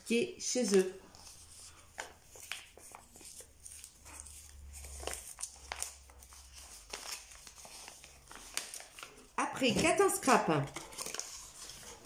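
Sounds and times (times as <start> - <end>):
paper packaging rustling: 0.5 - 12.0.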